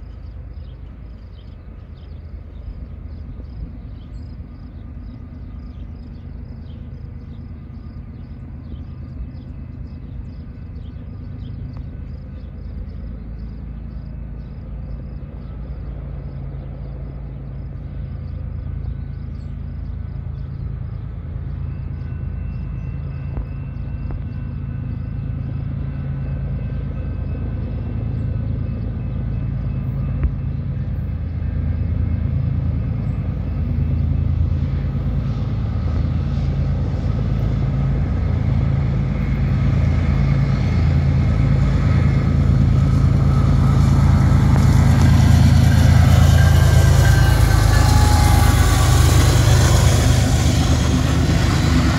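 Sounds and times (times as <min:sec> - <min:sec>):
diesel locomotive engines droning: 0:00.0 - 0:51.9.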